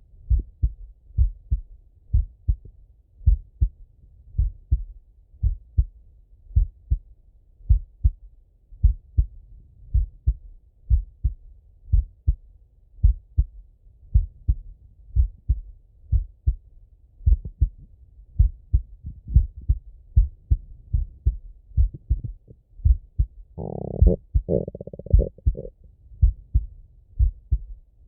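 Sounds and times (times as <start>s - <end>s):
heartbeat through stethoscope: 0.0s - 7.1s, 7.7s - 8.2s, 8.8s - 12.4s, 13.0s - 27.9s.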